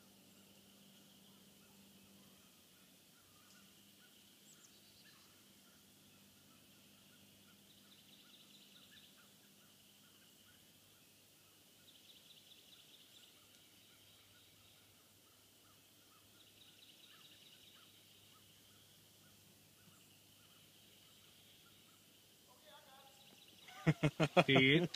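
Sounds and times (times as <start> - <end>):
faint songbird trill: 0.0 - 24.9.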